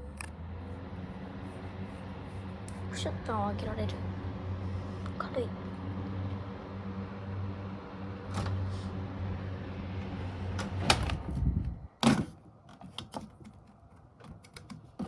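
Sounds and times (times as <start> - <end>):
ventilation fan motor hum: 0.0 - 12.2.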